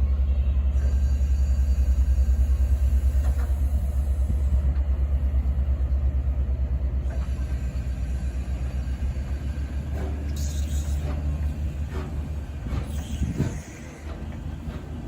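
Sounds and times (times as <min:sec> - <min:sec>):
low pulsing engine rumble: 0:00.0 - 0:15.0.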